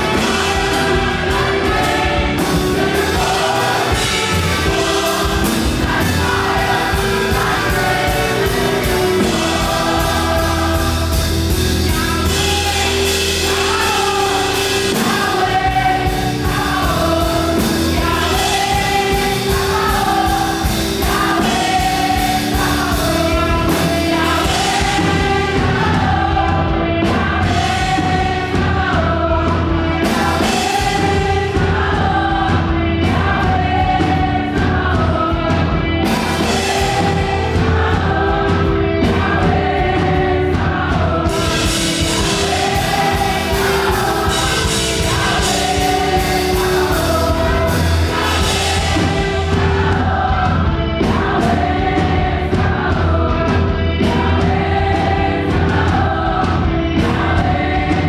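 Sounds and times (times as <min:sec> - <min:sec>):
band with driving beat: 0:00.0 - 0:58.0
group of singers: 0:00.0 - 0:58.0.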